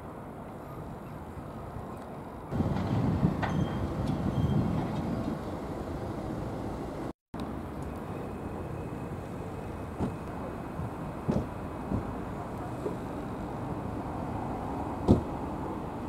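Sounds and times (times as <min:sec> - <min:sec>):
outdoor background rumble: 0:00.0 - 0:16.0.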